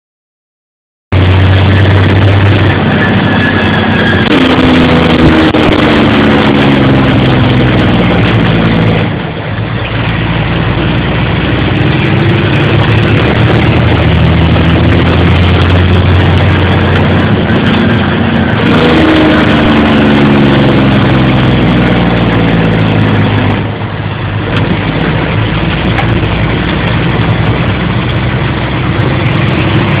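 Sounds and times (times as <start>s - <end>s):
diesel engine running: 1.1s - 30.0s.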